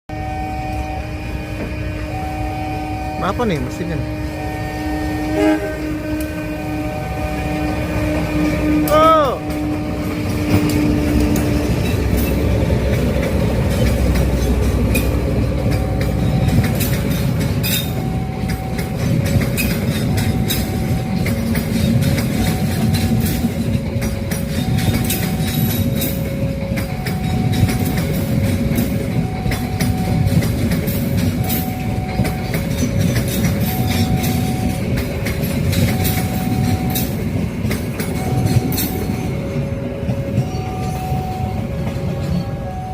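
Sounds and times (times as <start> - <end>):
train rumble: 0.1 - 42.9
train wheels clattering: 5.2 - 42.9.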